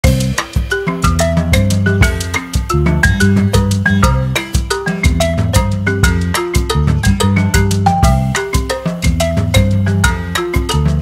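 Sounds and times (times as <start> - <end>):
bouncy tune with bass line: 0.0 - 11.0.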